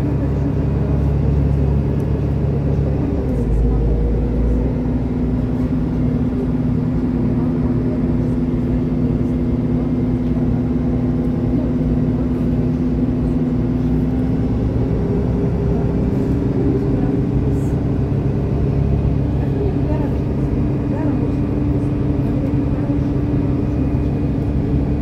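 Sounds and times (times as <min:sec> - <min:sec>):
bus drive hum: 0:00.0 - 0:25.0
road and tyre rumble: 0:00.0 - 0:25.0.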